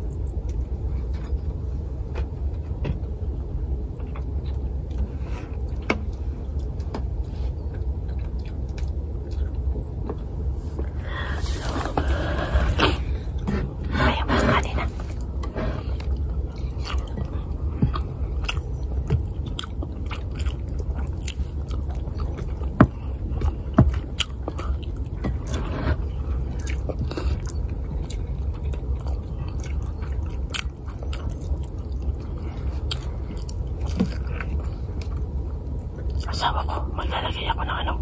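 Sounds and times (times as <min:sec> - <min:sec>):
low steady hum: 0:00.0 - 0:38.0
person chewing: 0:04.2 - 0:37.7.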